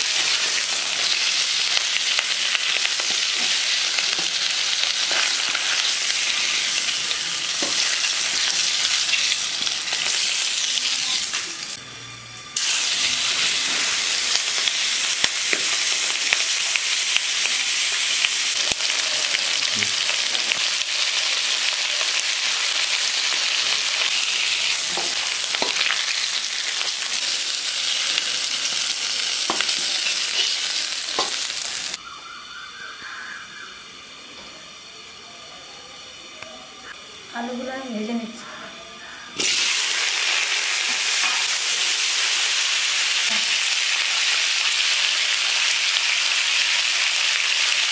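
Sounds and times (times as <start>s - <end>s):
potatoes sizzling in hot oil: 0.0s - 11.8s, 12.5s - 32.0s, 39.4s - 47.9s.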